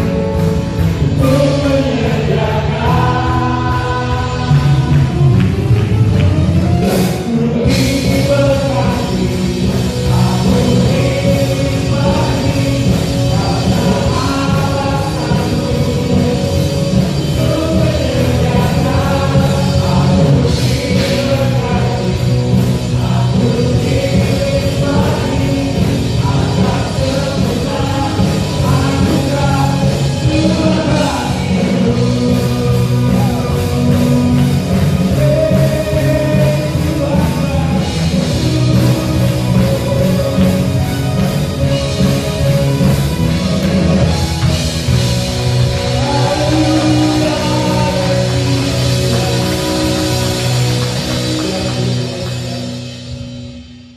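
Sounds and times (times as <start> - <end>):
vocalists singing: 0.0 - 53.1
drums: 0.0 - 53.9
guitars: 0.0 - 53.9
keyboards: 0.0 - 53.9.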